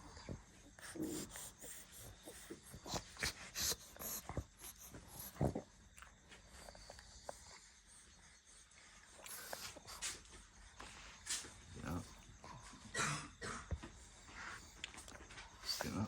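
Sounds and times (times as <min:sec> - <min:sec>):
dog breathing noisily: 0:00.0 - 0:16.0.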